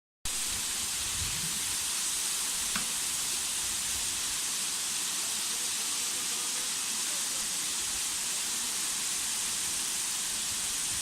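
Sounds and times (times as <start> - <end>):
water cascading over rocks: 0.3 - 11.0.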